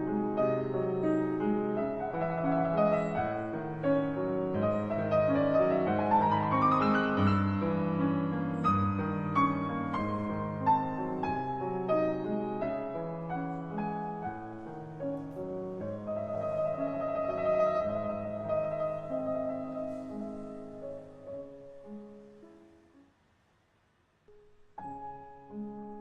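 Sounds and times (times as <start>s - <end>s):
piano music: 0.0s - 23.2s, 24.3s - 26.0s.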